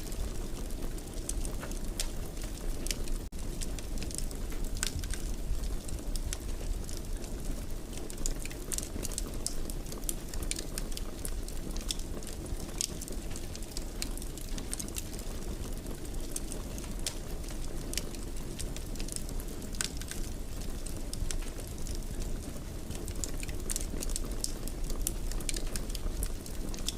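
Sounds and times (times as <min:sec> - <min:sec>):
fire crackling in a fireplace: 0:00.0 - 0:26.9.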